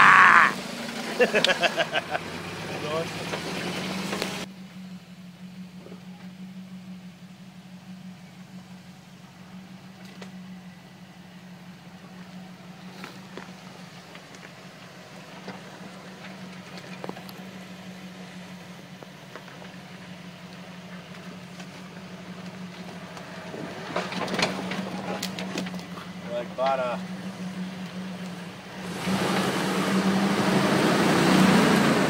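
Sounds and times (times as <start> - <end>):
engine running at low revs: 0.0 - 32.0.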